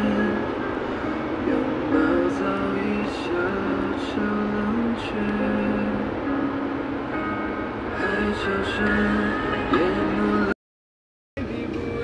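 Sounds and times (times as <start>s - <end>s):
car road noise: 0.0s - 10.6s, 11.4s - 12.0s.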